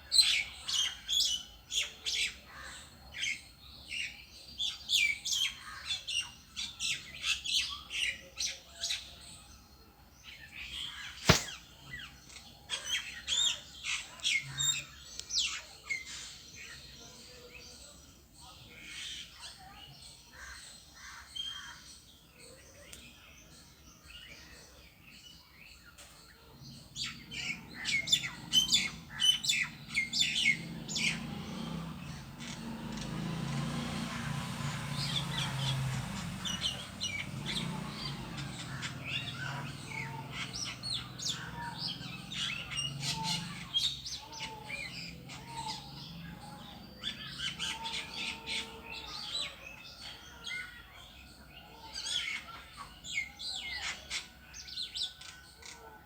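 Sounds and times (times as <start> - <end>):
bird chirping: 10.3 - 20.2, 20.8 - 56.0.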